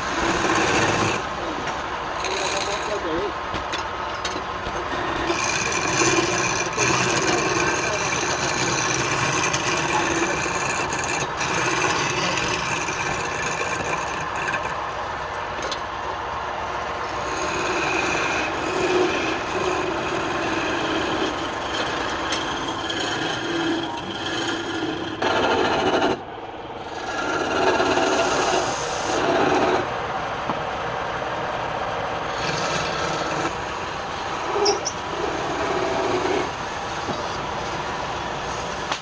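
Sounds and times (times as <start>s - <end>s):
lathe motor tone: 0.0s - 3.6s, 4.5s - 15.3s, 17.0s - 29.9s, 32.2s - 39.0s
wood scraping on lathe: 0.0s - 15.0s, 17.0s - 29.9s, 32.3s - 39.0s.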